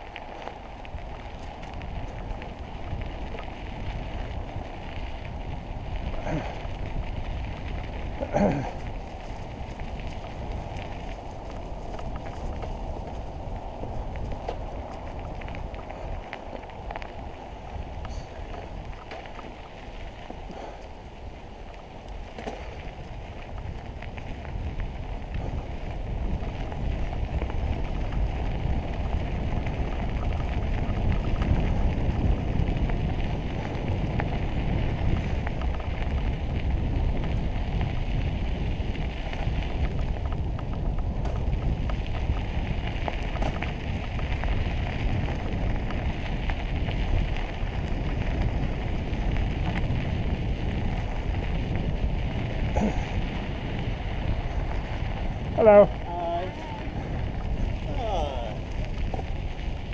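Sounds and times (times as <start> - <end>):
tyres crunching on gravel: 0.0 - 59.9
wind on microphone: 0.0 - 59.9.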